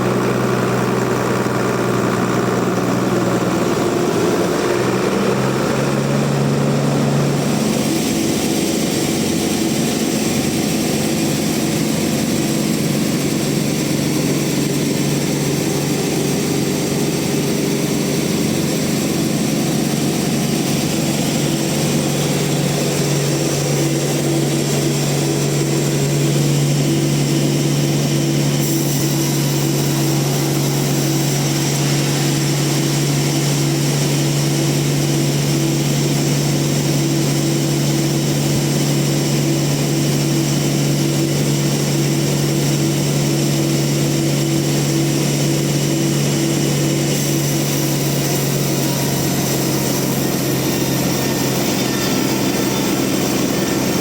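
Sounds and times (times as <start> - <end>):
band sawmill humming: 0.0 - 54.0.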